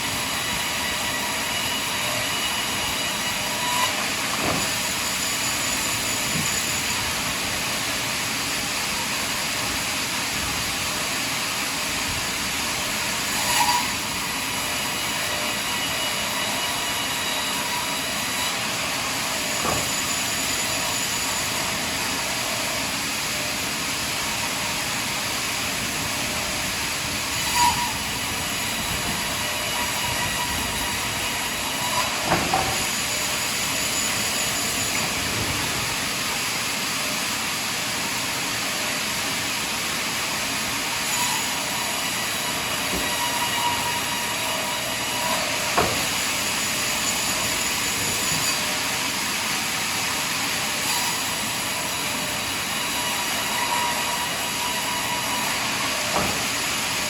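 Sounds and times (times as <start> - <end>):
sawmill running: 0.0 - 57.0.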